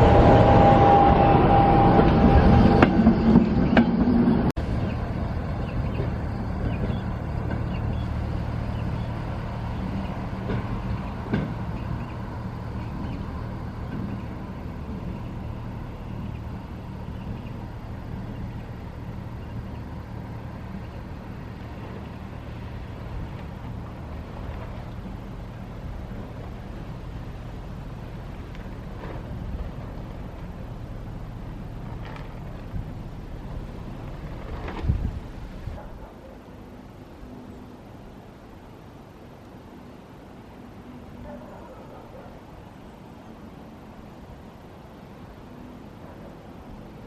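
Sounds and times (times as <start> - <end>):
locomotive diesel engine hum: 0.0 - 47.0.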